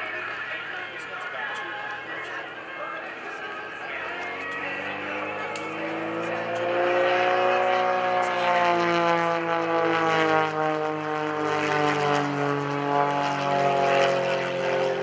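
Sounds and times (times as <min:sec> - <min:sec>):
propeller plane engine in flight: 0:00.0 - 0:15.0.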